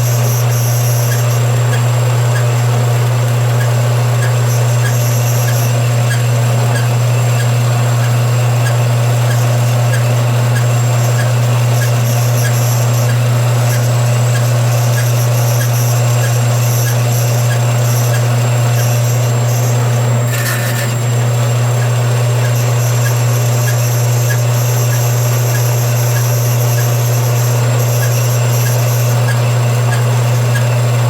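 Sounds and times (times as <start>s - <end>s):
band saw cutting metal: 0.0s - 31.0s.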